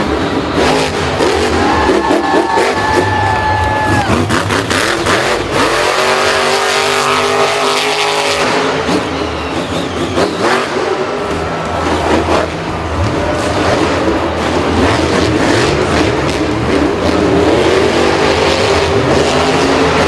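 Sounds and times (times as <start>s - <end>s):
racing car engines revving: 0.0s - 20.0s.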